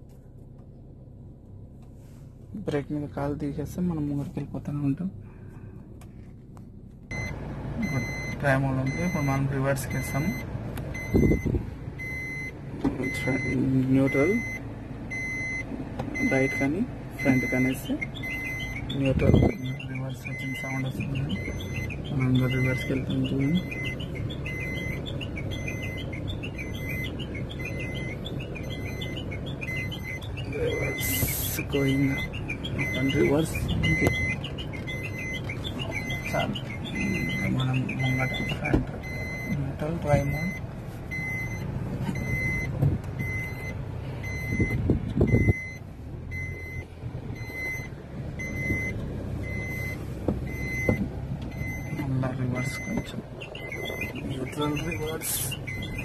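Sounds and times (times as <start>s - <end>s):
car engine running low: 0.0s - 56.0s
reverse warning beeper: 7.1s - 56.0s.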